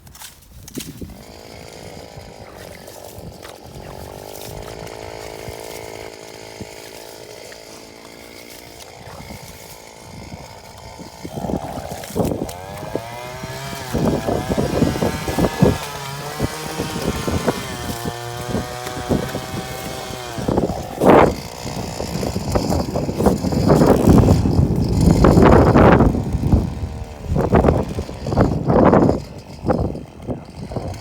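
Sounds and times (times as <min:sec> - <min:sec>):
small petrol engine revving: 0:00.6 - 0:31.0.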